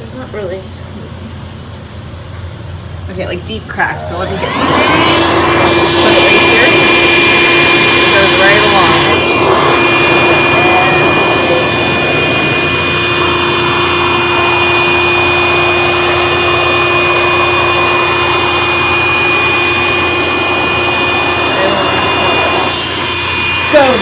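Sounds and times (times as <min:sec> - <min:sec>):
handheld vacuum cleaner whine: 0:04.0 - 0:24.0.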